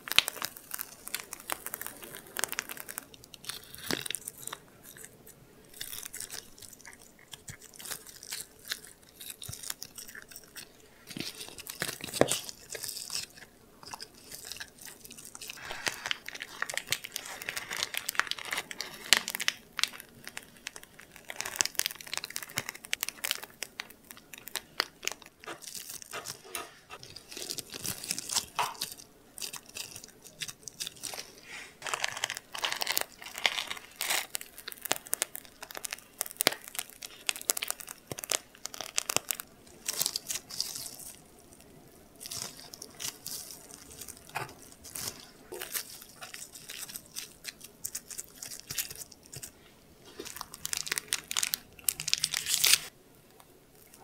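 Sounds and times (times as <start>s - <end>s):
plastic piping bag crinkling: 0.0s - 52.9s.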